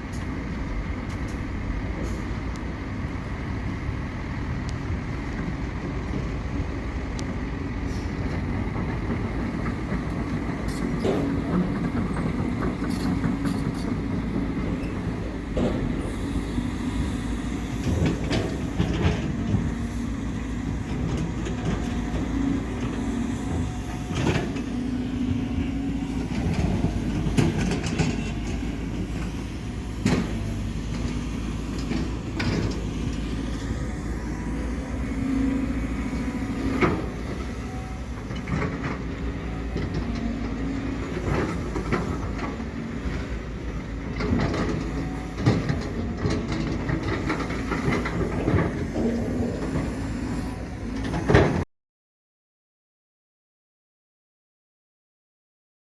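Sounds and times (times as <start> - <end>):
excavator diesel engine running: 0.0 - 51.6.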